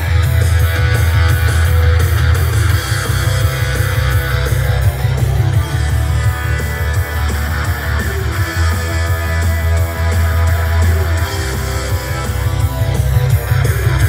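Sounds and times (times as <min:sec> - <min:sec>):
rock music over speakers: 0:00.0 - 0:14.0.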